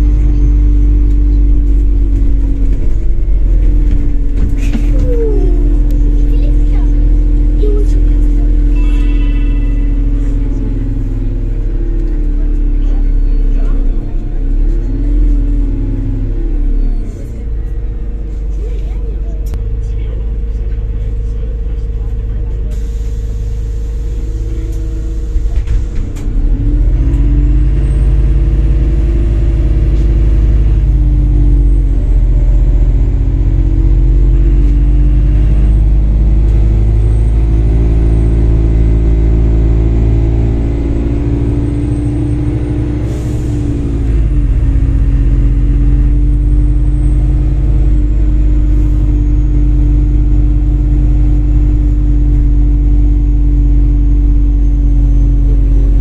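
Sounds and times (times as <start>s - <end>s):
bus engine accelerating: 0.0s - 56.0s.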